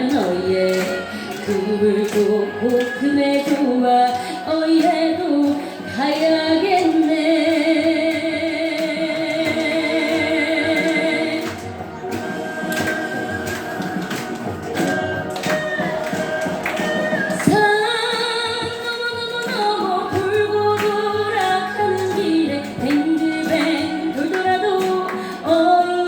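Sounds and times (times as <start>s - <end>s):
percussion strikes: 0.0s - 26.0s.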